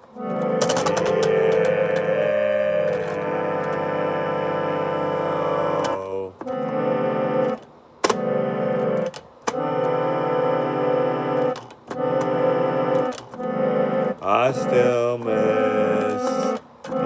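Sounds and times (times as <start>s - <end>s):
electronic keyboard chords: 0.0s - 17.0s.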